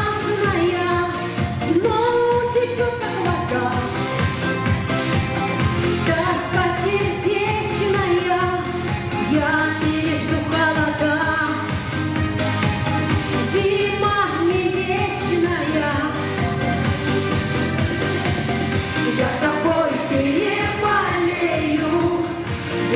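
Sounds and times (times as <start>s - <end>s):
pop song with singing: 0.0s - 22.9s.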